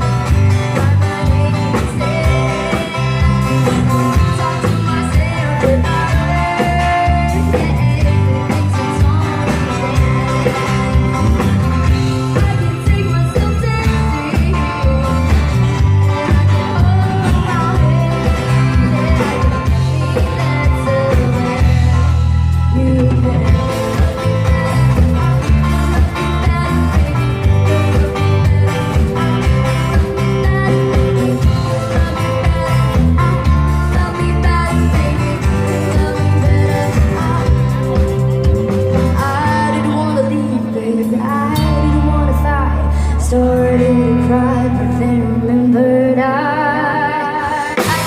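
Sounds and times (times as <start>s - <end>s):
bass and drum beat: 0.0s - 45.6s, 47.7s - 48.0s
guitar: 0.0s - 48.0s
live rock band: 0.0s - 48.0s
person singing: 0.0s - 48.0s.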